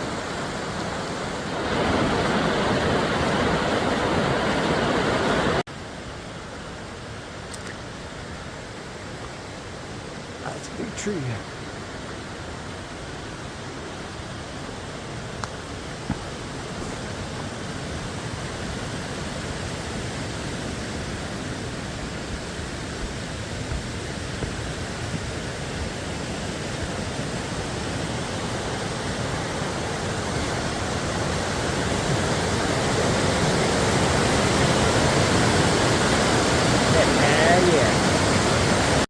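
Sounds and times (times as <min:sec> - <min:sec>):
rushing creek water: 0:00.0 - 0:39.0.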